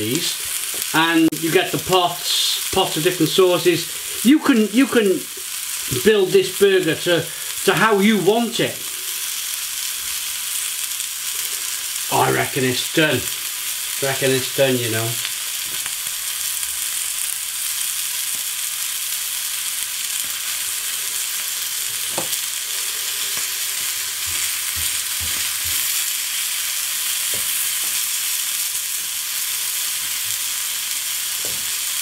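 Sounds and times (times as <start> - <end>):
patty sizzling in a pan: 0.0 - 32.0.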